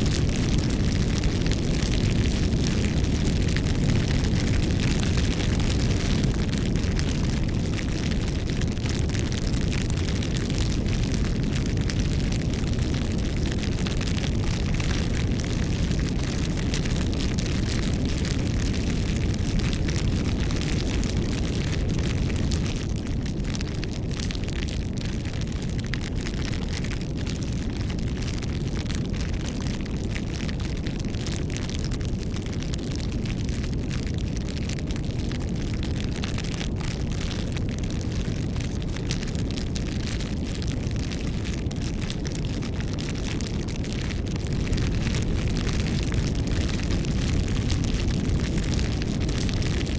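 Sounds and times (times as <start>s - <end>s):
flames rumbling: 0.0s - 49.9s
wood crackling and popping: 0.0s - 49.9s.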